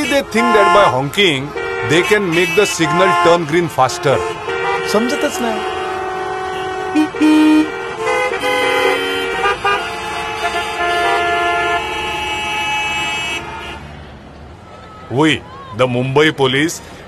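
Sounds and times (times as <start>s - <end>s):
low loud horn blast: 0.0s - 13.9s
car horns honking: 0.0s - 14.0s.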